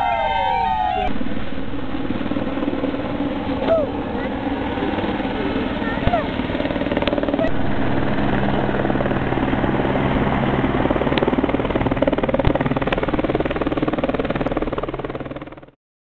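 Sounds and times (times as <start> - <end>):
motorboat engine running: 1.1 - 15.7.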